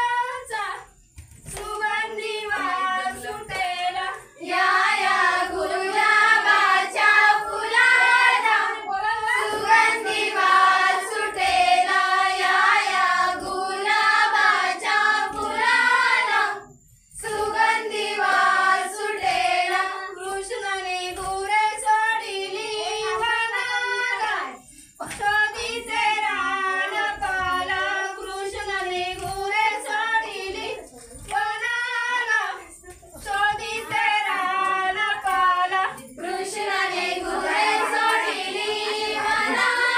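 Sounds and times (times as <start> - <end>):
women and girls singing together: 0.0 - 39.9.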